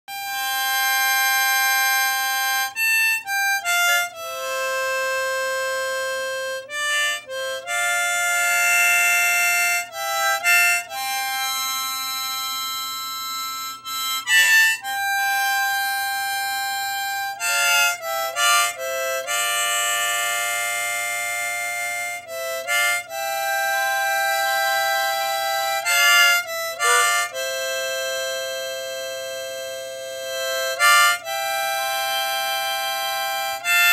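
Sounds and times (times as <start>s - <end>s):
harmonica playing chords: 0.1s - 33.9s.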